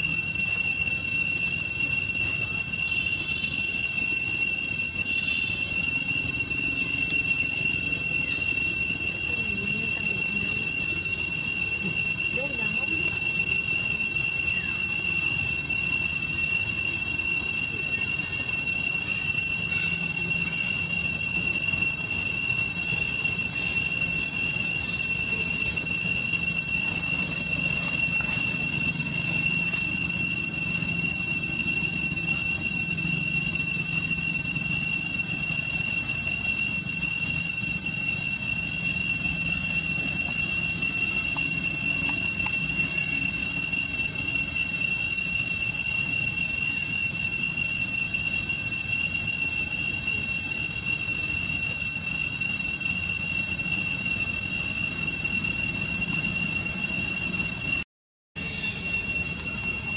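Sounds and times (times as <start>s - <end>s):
insects droning: 0.0s - 57.8s, 58.4s - 59.9s.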